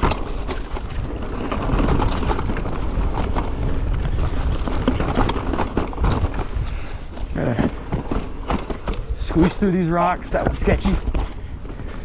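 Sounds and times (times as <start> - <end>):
bike clattering and knocking: 0.0 - 12.0
mountain bike rumbling over rocks: 0.0 - 12.0.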